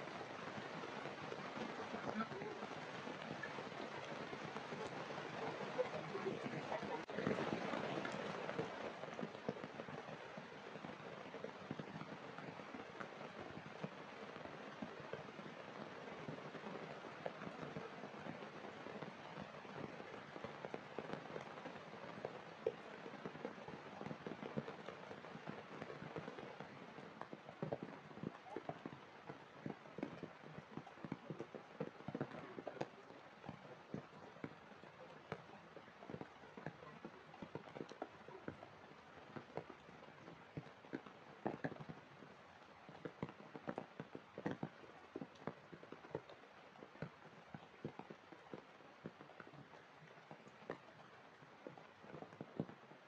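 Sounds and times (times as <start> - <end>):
heavy rain on puddles: 0.0 - 53.0.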